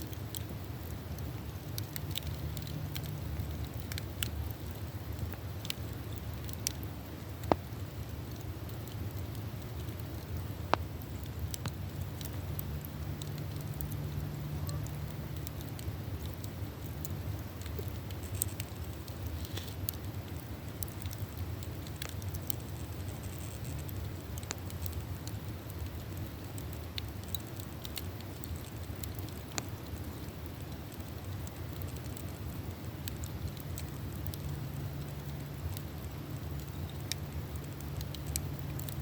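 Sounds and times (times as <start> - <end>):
campfire pops and snaps: 0.0 - 39.0
low fire rumble: 0.0 - 39.0.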